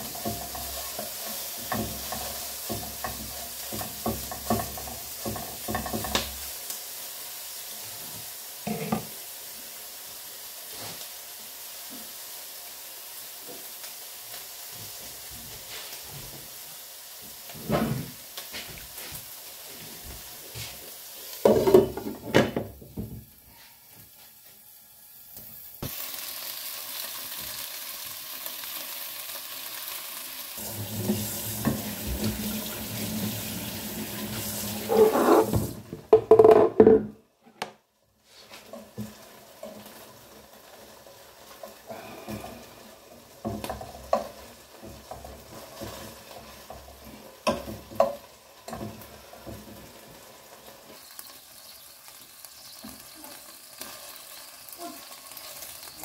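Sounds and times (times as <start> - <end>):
chicken wings sizzling in oil: 0.0 - 36.7, 37.8 - 56.0.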